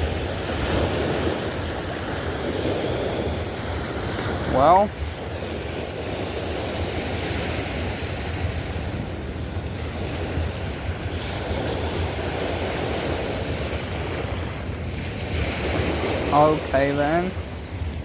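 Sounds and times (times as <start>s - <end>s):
fast-flowing river water: 0.0s - 18.0s
wind: 0.0s - 18.0s
wind rumbling on microphone: 0.0s - 18.0s.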